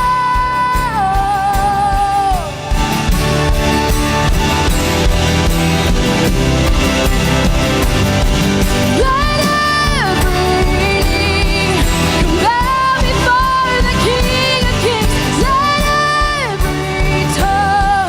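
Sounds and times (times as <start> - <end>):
worship band playing: 0.0 - 18.0.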